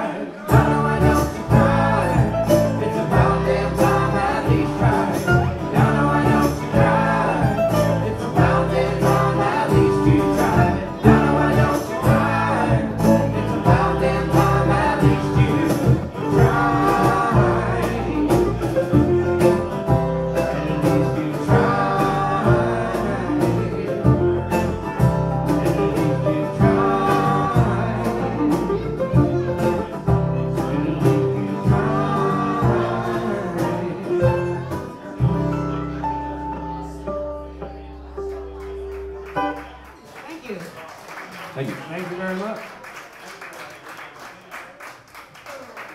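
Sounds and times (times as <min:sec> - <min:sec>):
mandolin: 0:00.0 - 0:40.0
acoustic guitar: 0:00.0 - 0:40.6
bass line: 0:00.5 - 0:39.8.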